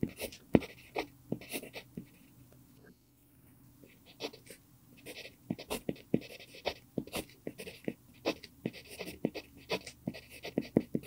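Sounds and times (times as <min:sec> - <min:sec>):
pencil scratching on paper: 0:00.0 - 0:02.2, 0:04.1 - 0:11.0.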